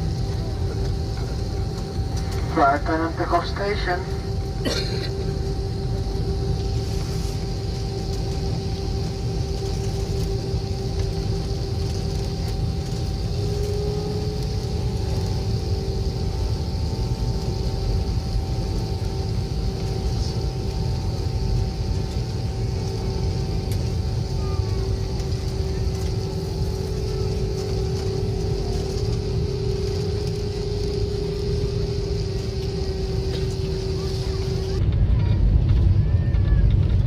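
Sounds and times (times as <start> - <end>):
airliner cabin engine drone: 0.0 - 37.0.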